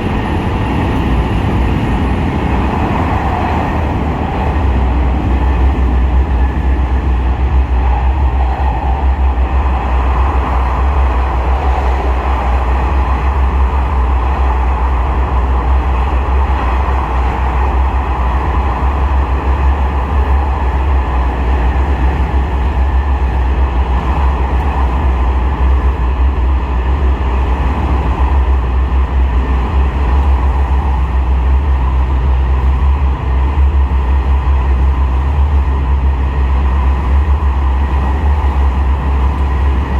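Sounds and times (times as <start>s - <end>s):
diesel railcar droning: 0.0s - 39.9s
wheel and rail noise: 0.0s - 39.9s.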